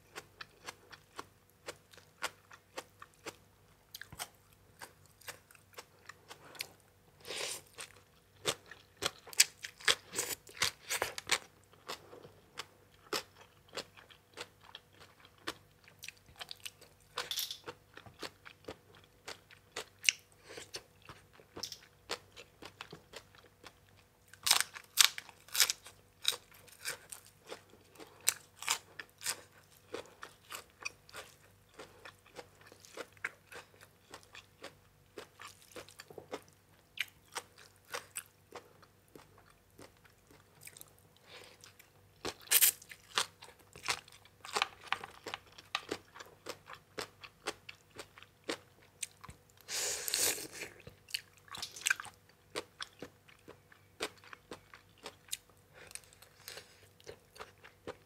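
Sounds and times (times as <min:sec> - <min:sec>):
person chewing crisp food: 0:00.0 - 0:58.0.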